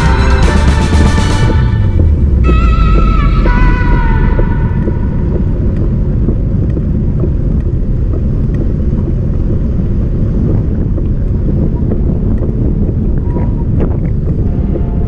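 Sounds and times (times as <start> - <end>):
wind buffeting microphone: 1.5 - 15.0.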